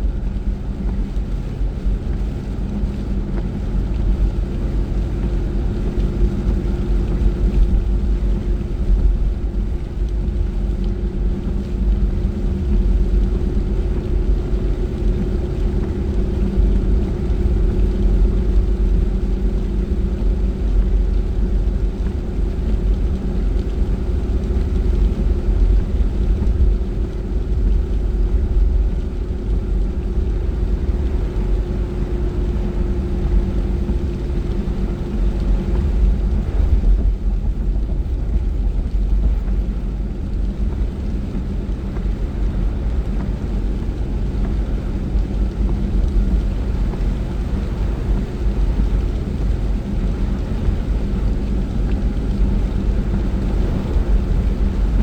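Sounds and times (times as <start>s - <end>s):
car engine and road rumble: 0.0s - 55.0s
tyres hissing on wet road: 0.0s - 55.0s.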